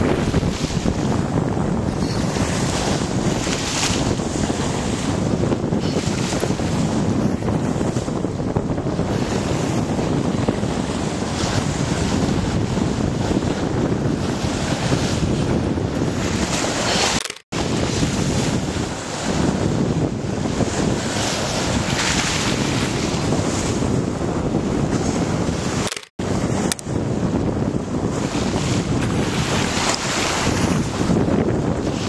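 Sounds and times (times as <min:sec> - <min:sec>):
sea water rushing along hull: 0:00.0 - 0:32.0
wind buffeting microphone: 0:00.0 - 0:32.0.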